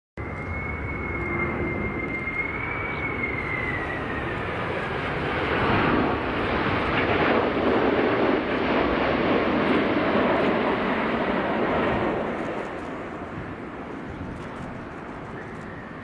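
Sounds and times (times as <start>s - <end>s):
jet engines whining and roaring: 0.2s - 16.0s.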